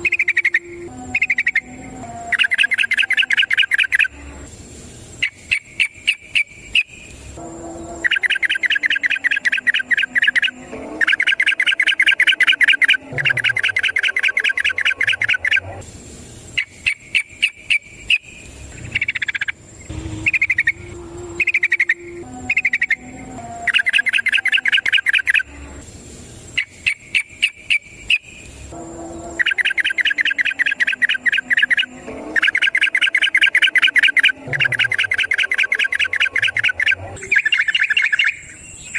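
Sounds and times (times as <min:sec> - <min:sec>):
bird singing trilled song: 0:00.0 - 0:04.3, 0:05.2 - 0:07.2, 0:07.8 - 0:15.8, 0:16.5 - 0:25.5, 0:26.5 - 0:28.5, 0:29.1 - 0:38.9
sliding whistled bird notes: 0:00.0 - 0:25.8, 0:26.5 - 0:38.9.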